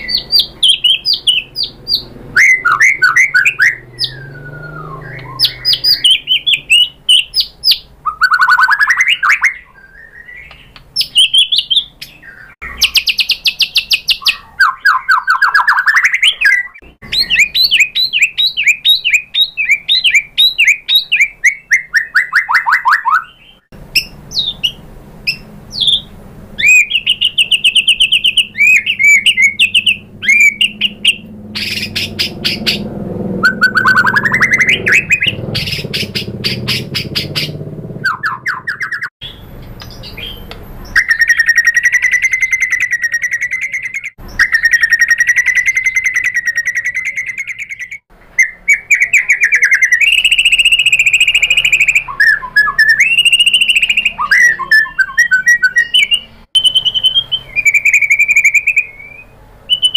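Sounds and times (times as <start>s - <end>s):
bird singing trills and whistles: 0.0s - 59.9s.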